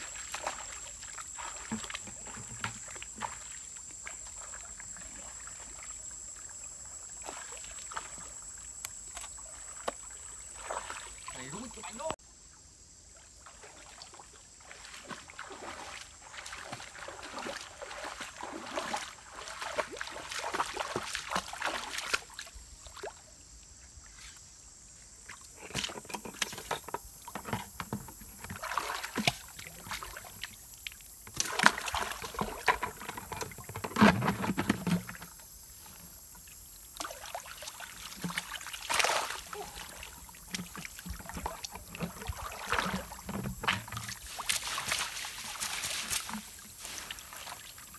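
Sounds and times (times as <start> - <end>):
river water splashing: 0.0 - 12.2, 13.2 - 23.3, 25.3 - 47.9.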